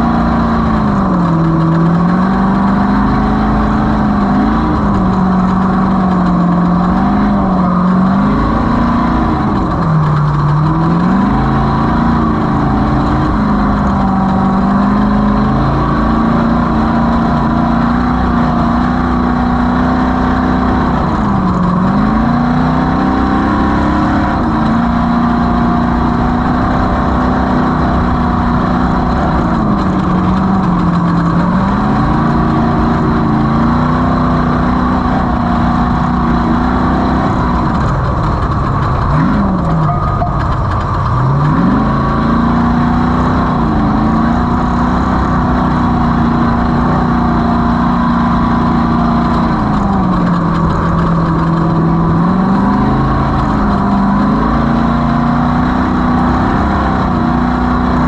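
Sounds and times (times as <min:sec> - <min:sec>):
ground rumble: 0:00.0 - 0:19.7, 0:20.4 - 0:54.8
off-road vehicle engine running hard: 0:00.0 - 0:58.0.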